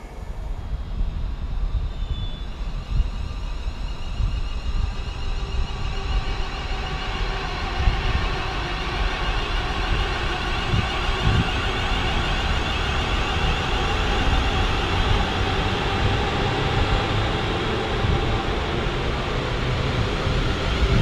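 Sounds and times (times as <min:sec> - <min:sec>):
faint train whine: 0:00.0 - 0:21.0.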